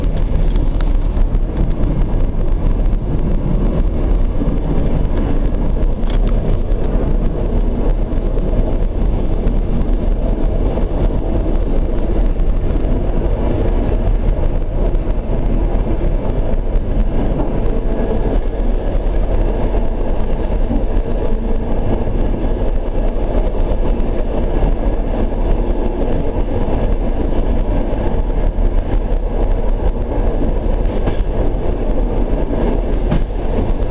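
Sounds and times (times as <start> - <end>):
train wheels rumbling: 0.0 - 33.9.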